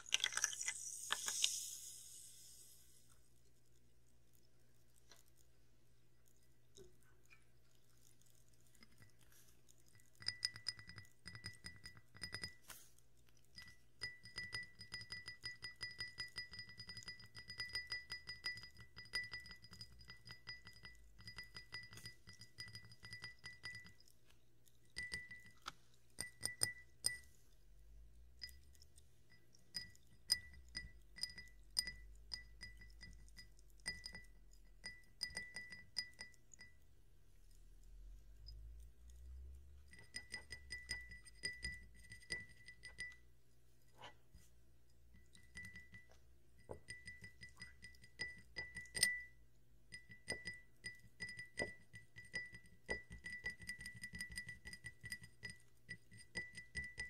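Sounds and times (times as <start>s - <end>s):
glass tumblers being tapped: 0.0s - 3.2s, 6.3s - 57.0s.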